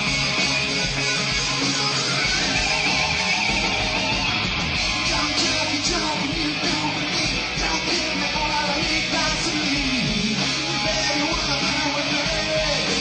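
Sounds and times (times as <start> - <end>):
electric guitars: 0.0 - 13.0
live rock band playing: 0.0 - 13.0.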